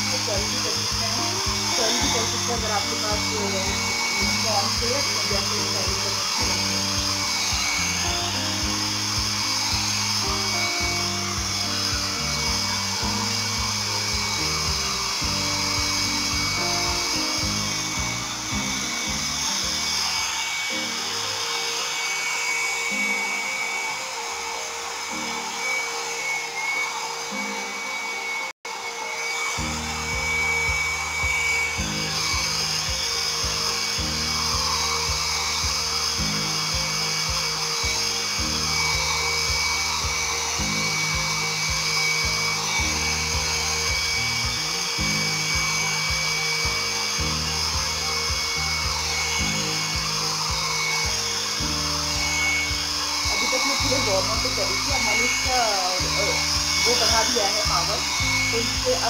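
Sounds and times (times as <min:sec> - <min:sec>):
background music: 0:00.0 - 0:59.0
hair dryer blowing: 0:00.0 - 0:59.0.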